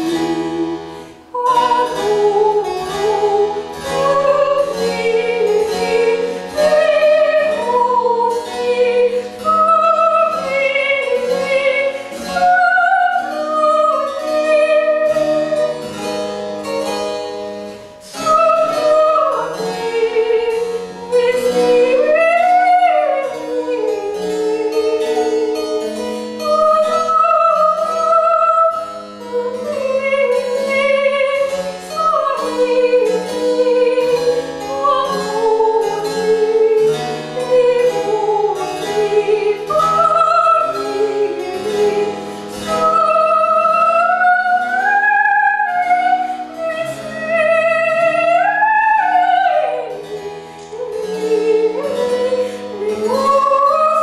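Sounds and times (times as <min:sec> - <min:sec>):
soprano singing opera aria: 0:00.0 - 0:16.1, 0:18.0 - 0:54.0
harpsichord: 0:00.0 - 0:54.0.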